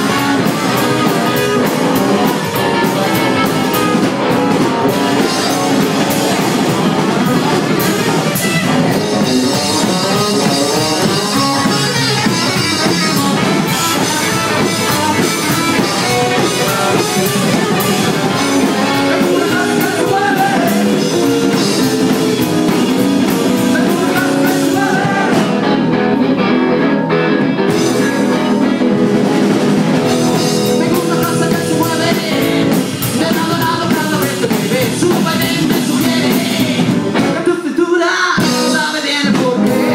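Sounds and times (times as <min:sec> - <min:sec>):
man singing: 0:00.0 - 0:25.9, 0:27.7 - 0:28.9, 0:30.0 - 0:39.9
rockabilly band playing: 0:00.0 - 0:39.9.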